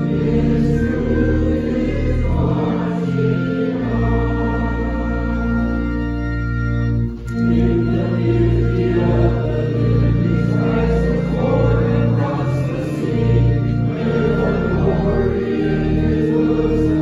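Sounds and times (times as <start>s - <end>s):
congregation singing a hymn: 0.0s - 17.0s
organ playing held chords: 0.0s - 17.0s.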